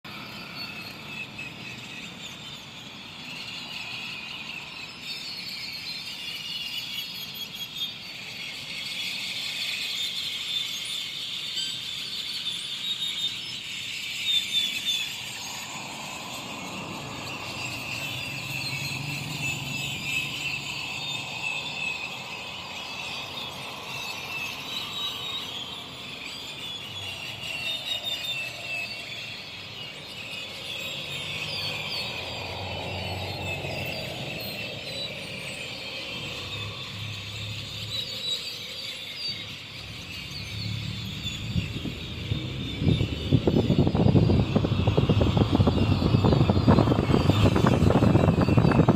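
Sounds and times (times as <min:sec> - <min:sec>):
flock of birds chattering: 0:00.1 - 0:48.9.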